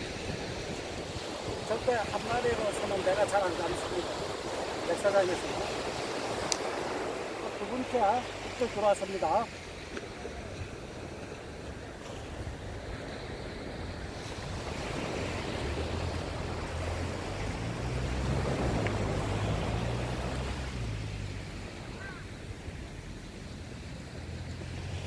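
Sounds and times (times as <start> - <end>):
surf washing up a beach: 0.0 - 25.0
wind rumble on microphone: 0.0 - 25.0.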